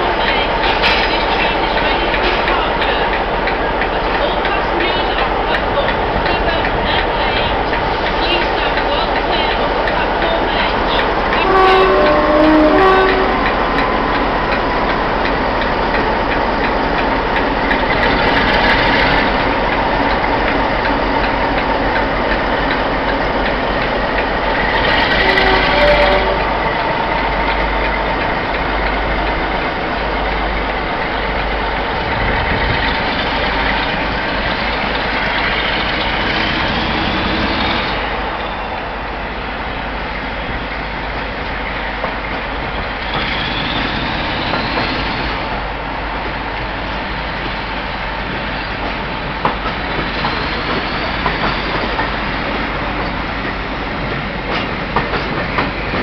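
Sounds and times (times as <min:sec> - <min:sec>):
diesel locomotive engine: 0:00.0 - 0:56.0.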